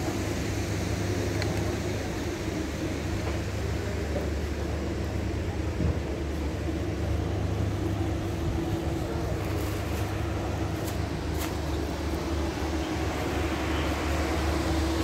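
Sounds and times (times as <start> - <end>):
large hall background noise: 0.0 - 15.0
low mechanical hum: 0.0 - 15.0.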